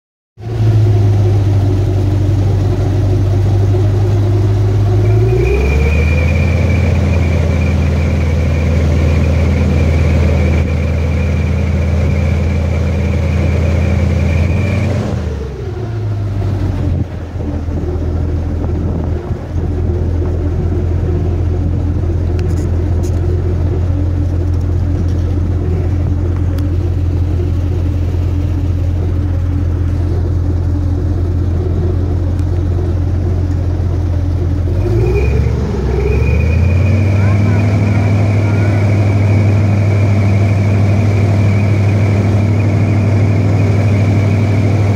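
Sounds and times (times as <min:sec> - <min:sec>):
airboat engine running: 0:00.4 - 0:44.9
high engine whine: 0:00.4 - 0:44.9.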